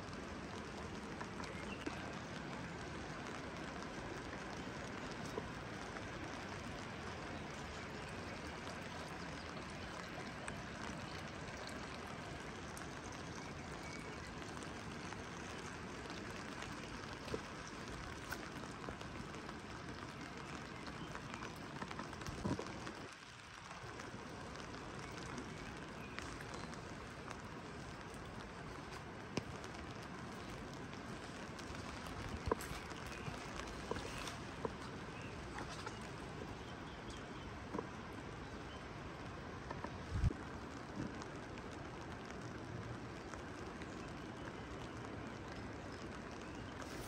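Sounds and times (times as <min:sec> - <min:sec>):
drops dripping and tapping: 0:00.0 - 0:47.0
steady rain falling: 0:00.0 - 0:47.0.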